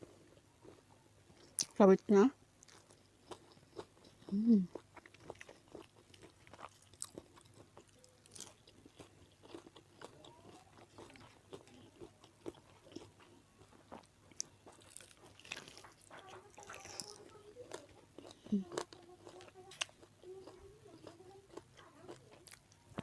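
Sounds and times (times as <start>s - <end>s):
person chewing and crunching: 2.6s - 23.0s.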